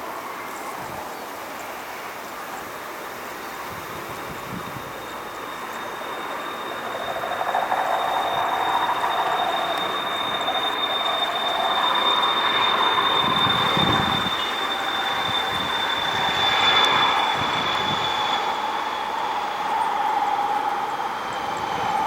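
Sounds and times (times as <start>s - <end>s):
jet engine roar and whine: 0.0s - 22.0s.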